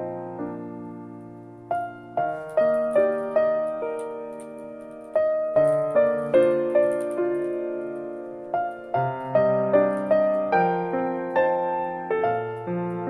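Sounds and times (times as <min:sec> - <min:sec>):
soft solo piano: 0:00.0 - 0:13.0.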